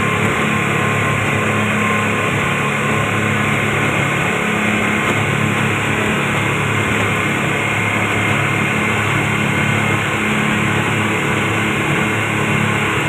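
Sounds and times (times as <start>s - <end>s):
outboard motors running: 0.0s - 13.0s
rush of boat wake and spray: 0.0s - 13.0s.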